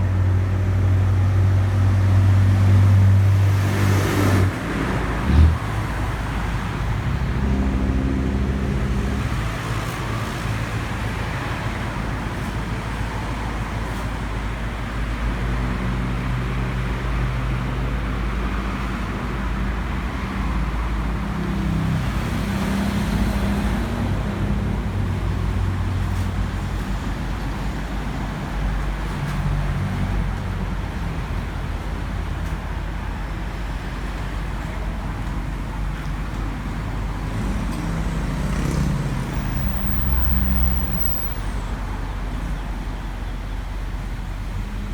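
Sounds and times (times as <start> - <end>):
road traffic noise: 0.0 - 44.9
vehicle engines running: 0.0 - 44.9.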